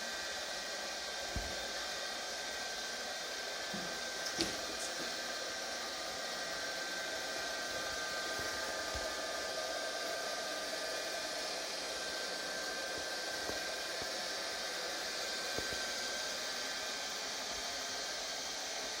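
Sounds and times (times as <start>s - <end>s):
robot vacuum whirring hum: 0.0s - 19.0s.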